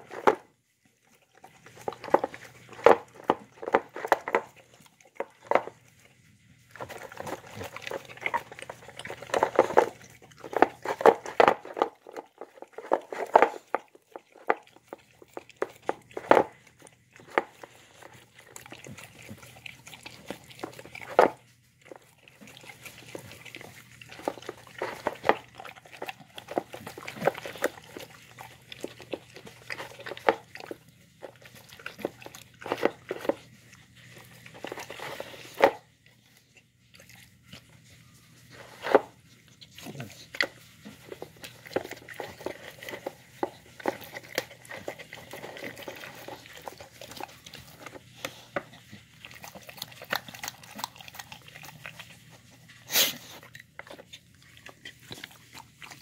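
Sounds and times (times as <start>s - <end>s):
dog chewing and licking: 0.0s - 56.0s.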